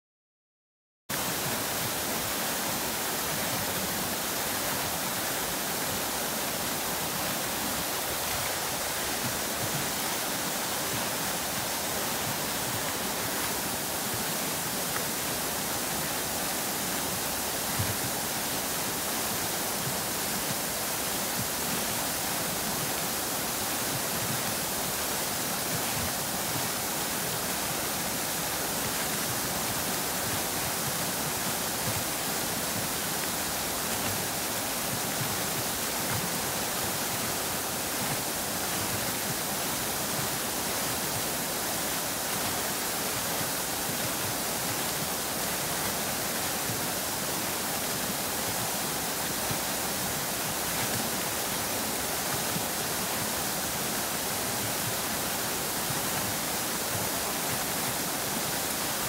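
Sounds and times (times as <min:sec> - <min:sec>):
fountain water splashing: 0:01.1 - 0:59.0.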